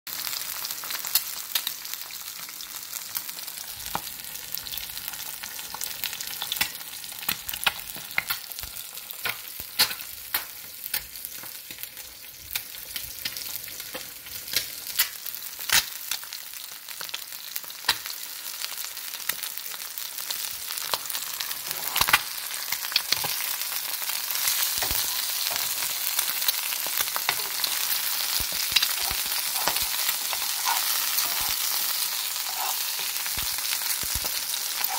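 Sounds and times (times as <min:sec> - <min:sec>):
eggs sizzling in oil: 0:00.1 - 0:34.9.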